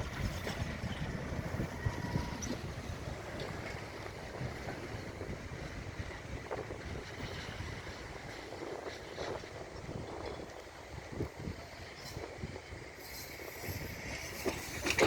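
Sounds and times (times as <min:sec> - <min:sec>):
wind gusts buffeting microphone: 0:00.0 - 0:15.0.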